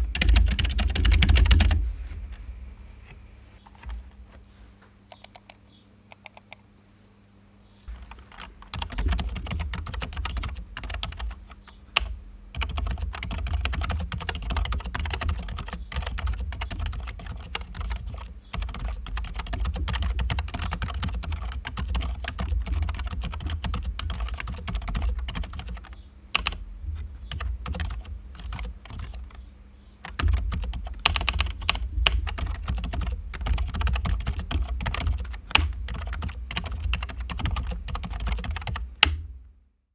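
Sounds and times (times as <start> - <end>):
mechanical keyboard typing: 0.0 - 1.8, 5.1 - 6.6, 7.9 - 26.6, 27.2 - 29.4, 30.0 - 39.2.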